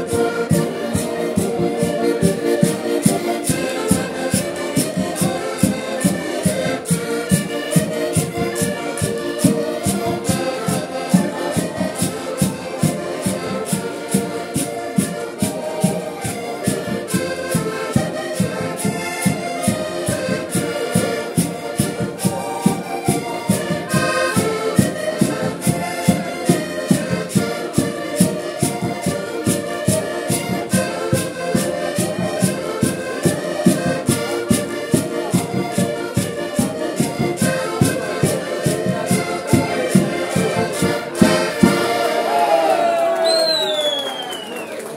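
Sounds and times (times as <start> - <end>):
percussion steady beat: 0.0 - 44.6
button accordions playing folk tune: 0.0 - 44.9.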